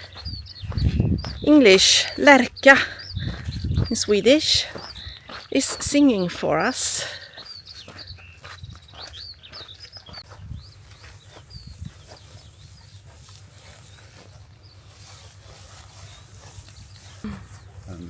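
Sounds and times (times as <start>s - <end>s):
skylark singing: 0.0s - 15.0s, 15.6s - 18.0s.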